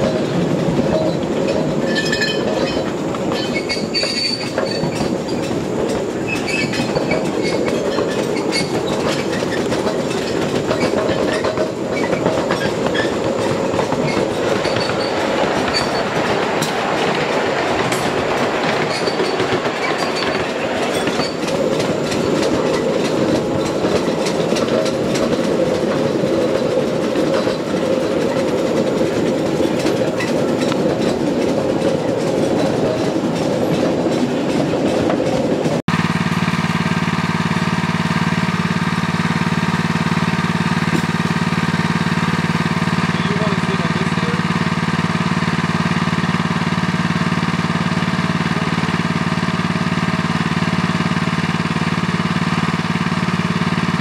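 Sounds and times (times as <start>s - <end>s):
rail joint clicks: 0.0s - 54.0s
steel train wheels rumbling: 0.0s - 54.0s.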